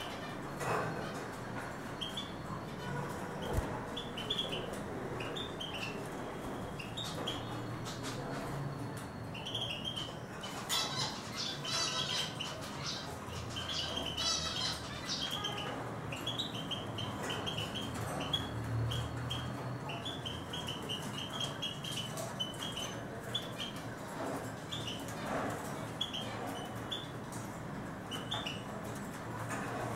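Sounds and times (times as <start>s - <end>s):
birds twittering: 0.0s - 29.9s.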